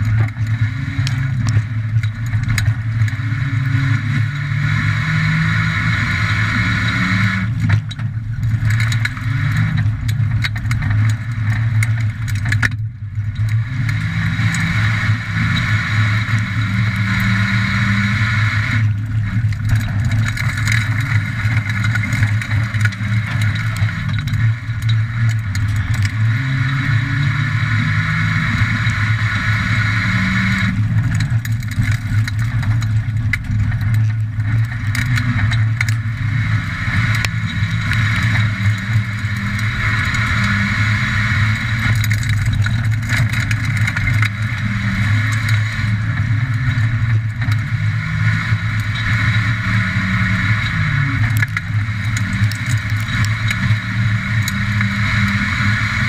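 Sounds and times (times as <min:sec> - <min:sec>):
car engine revving at speed: 0:00.0 - 0:56.0
road and tyre noise: 0:00.0 - 0:56.0.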